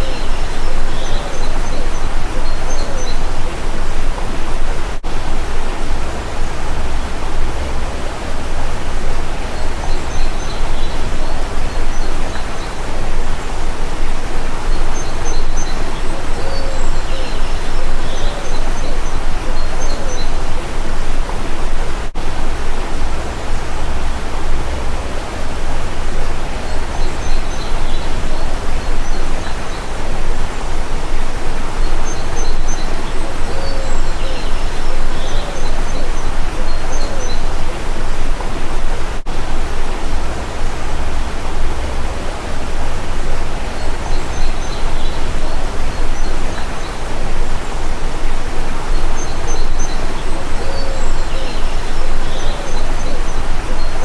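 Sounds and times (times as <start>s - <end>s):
small birds chirping: 0.0s - 54.0s
stream water rushing: 0.0s - 54.0s.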